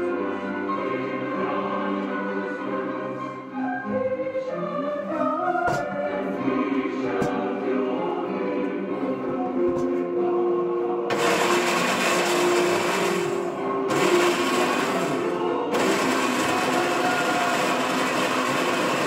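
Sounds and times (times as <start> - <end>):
choir singing with music: 0.0 - 19.0.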